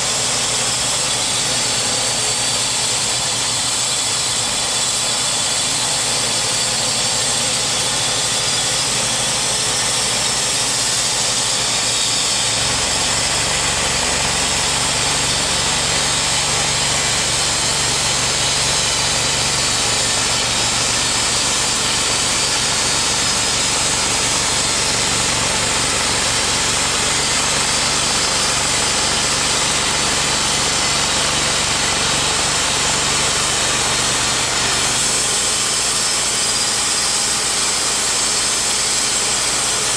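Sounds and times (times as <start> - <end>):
bandsaw mill sawing log: 0.0 - 39.9.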